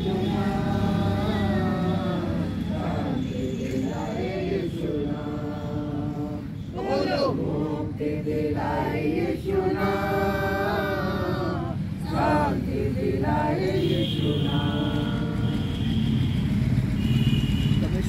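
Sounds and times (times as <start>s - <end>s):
group singing a hymn unaccompanied: 0.0s - 15.7s.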